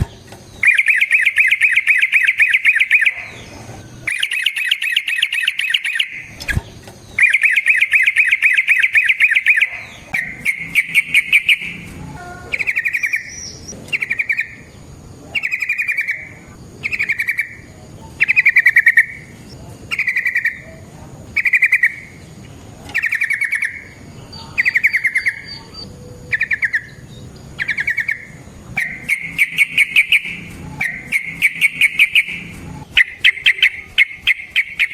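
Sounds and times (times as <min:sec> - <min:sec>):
bird singing rattling trills: 0:00.0 - 0:34.9.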